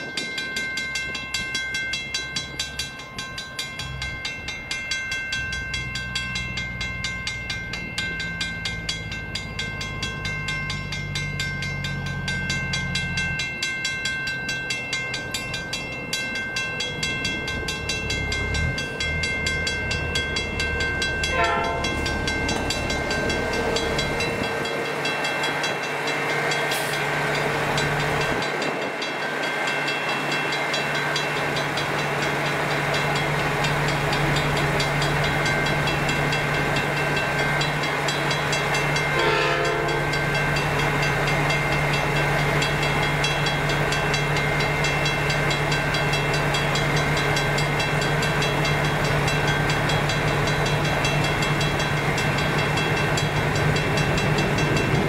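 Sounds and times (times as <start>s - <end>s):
approaching diesel locomotive: 0.0s - 55.0s
mechanical crossing bell ringing: 0.0s - 55.0s.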